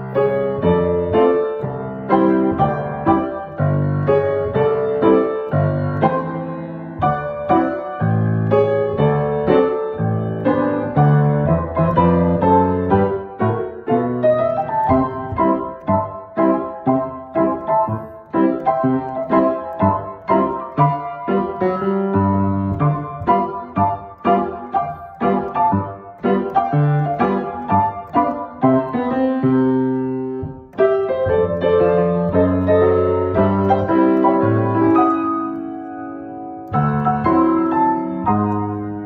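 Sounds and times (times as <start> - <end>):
grand piano chords: 0.0 - 39.0.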